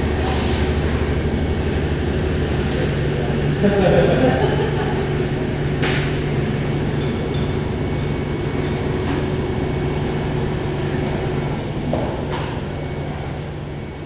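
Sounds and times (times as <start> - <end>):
low mechanical hum: 0.0 - 14.0
thin steady whine: 0.0 - 14.0.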